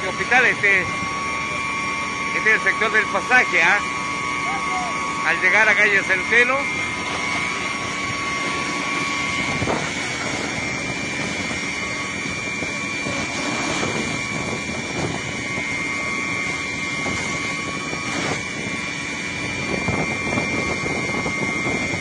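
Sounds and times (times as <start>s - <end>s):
fire engine pump running: 0.0s - 22.0s
fire hose stream rushing: 0.0s - 22.0s
thin steady whine: 0.0s - 22.0s.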